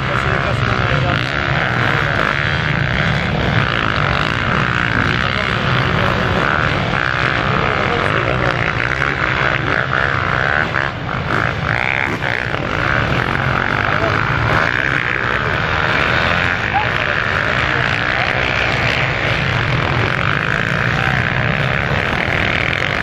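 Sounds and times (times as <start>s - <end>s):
motocross engines revving: 0.0s - 23.0s.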